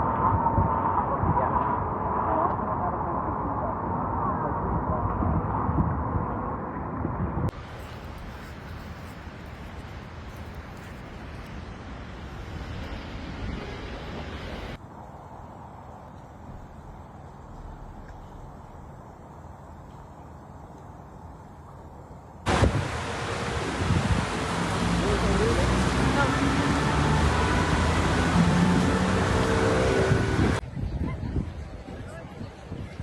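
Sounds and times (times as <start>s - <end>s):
wind blowing across microphone: 0.0s - 26.6s, 27.2s - 33.0s
steady outdoor noise: 0.0s - 33.0s.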